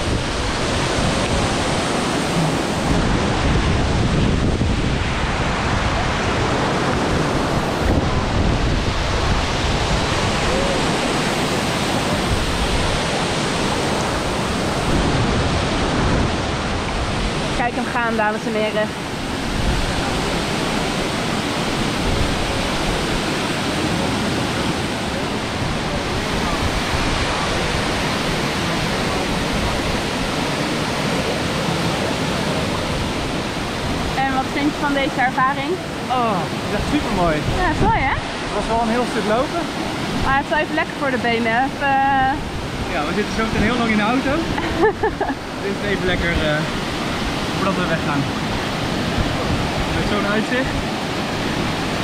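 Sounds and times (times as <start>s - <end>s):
waterfall rushing: 0.0s - 52.0s
wind buffeting microphone: 0.0s - 52.0s.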